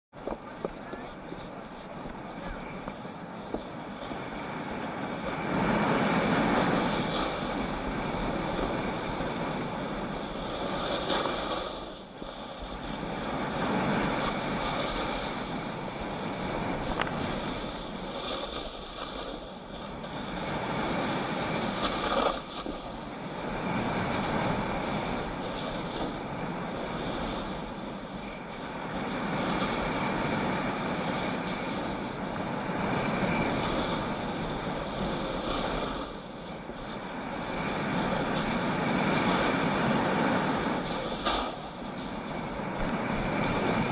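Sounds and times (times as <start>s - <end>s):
wind on microphone: 0.2s - 43.9s
edges scraping across snow: 0.3s - 32.2s, 32.8s - 43.9s.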